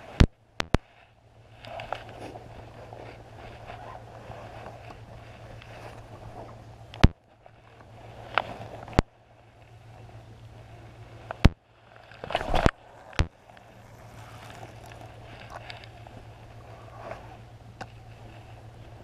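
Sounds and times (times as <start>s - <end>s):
rustling and scraping: 0.0s - 19.0s.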